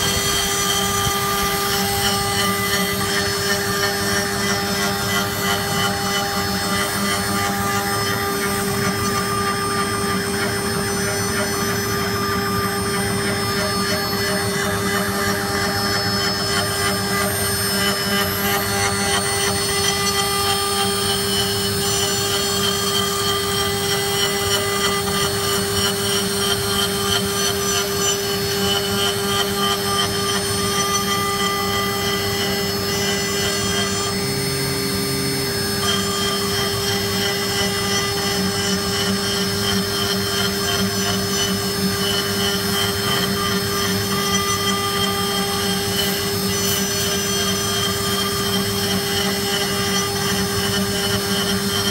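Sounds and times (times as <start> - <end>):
router spindle carving wood: 0.0 - 51.9.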